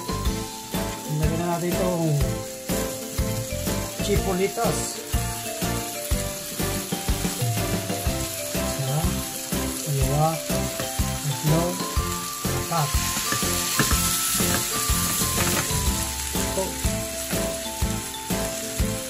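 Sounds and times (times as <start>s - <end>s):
vegetables sizzling in a pan: 0.0s - 19.0s
sausages laid in pan: 0.1s - 19.0s.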